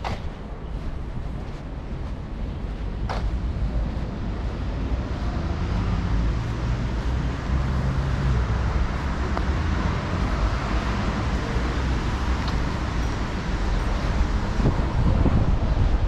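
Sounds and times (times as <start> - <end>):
engine hum: 0.0 - 16.0
low rumble of traffic: 0.0 - 16.0.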